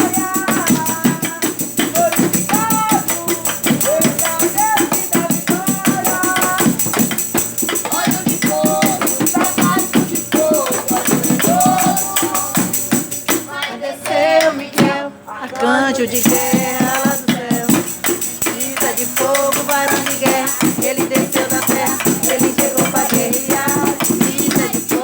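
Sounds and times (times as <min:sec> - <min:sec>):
fast percussion beat: 0:00.0 - 0:14.2, 0:16.0 - 0:25.0
gospel singing voices: 0:00.0 - 0:25.0.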